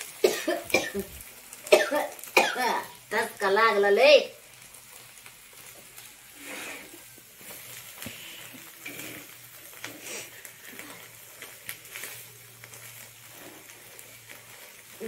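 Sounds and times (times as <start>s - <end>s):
faint frying sizzle: 0.0s - 15.0s.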